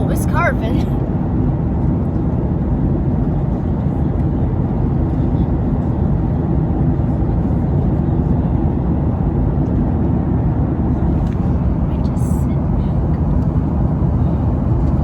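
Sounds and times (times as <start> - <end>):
airliner cabin engine and air noise: 0.0 - 15.0.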